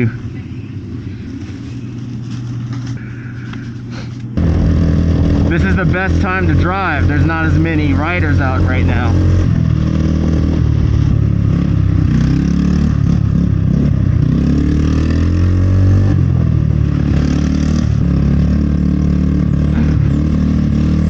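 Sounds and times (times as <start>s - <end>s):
road and wind noise: 0.0s - 21.0s
vehicle motor running: 0.0s - 21.0s.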